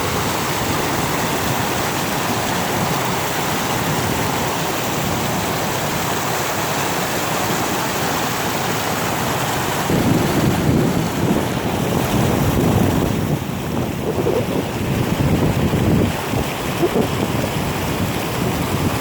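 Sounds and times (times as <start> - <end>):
river rushing: 0.0 - 19.0
wind buffeting microphone: 0.0 - 19.0.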